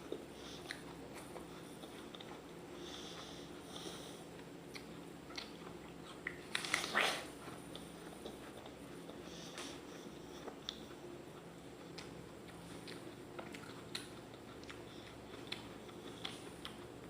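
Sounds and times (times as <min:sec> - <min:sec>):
chewing apple crunches: 0:00.0 - 0:17.0.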